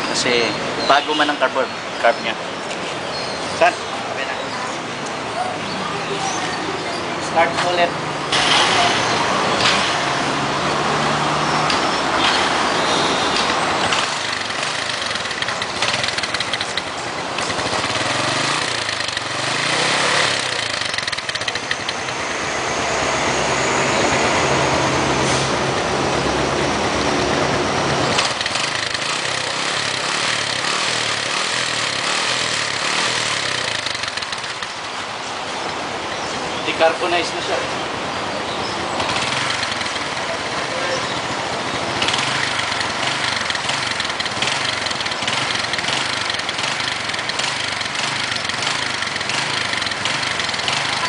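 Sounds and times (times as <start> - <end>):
motorbike engine starting and running: 7.4 - 36.2, 38.8 - 51.0.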